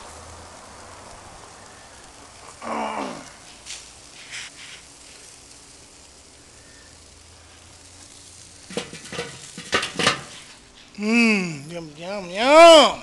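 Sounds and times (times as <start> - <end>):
sharp crackles: 0.0 - 12.8
meat sizzling on a grill: 0.0 - 13.0.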